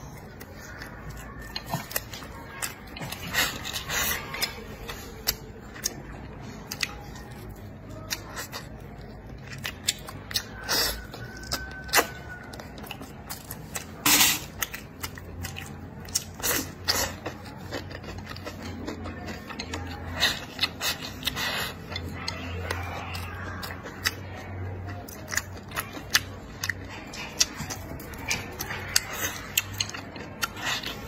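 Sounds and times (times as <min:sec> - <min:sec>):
chewing and lip-smacking: 0:00.0 - 0:31.0.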